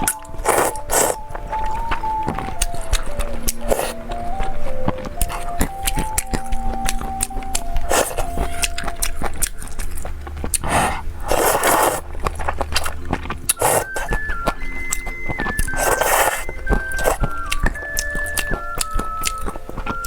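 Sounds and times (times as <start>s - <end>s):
simple background melody: 0.0s - 10.6s, 12.4s - 20.0s
chewing and crunchy bites: 0.0s - 20.0s.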